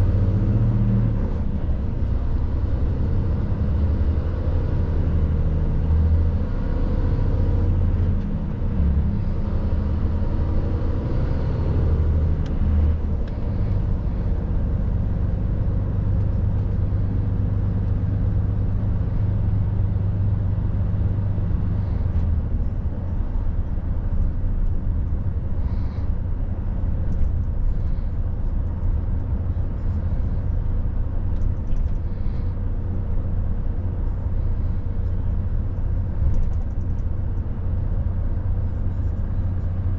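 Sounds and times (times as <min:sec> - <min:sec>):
tyre and road noise: 0:00.0 - 0:39.9
truck diesel engine running: 0:07.4 - 0:39.9.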